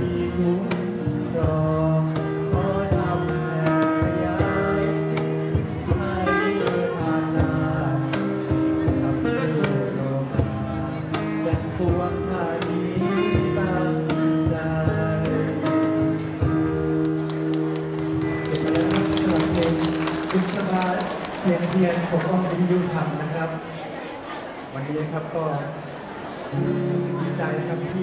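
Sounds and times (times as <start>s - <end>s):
acoustic guitar strumming: 0.0s - 21.3s, 26.3s - 28.0s
cajon beat: 0.0s - 23.0s.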